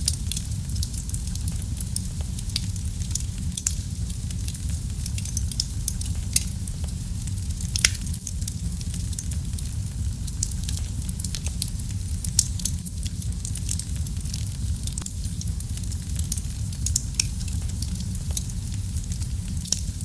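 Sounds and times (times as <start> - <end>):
fire crackles and pops: 0.0 - 20.0
fire rumbling in fireplace: 0.0 - 20.0.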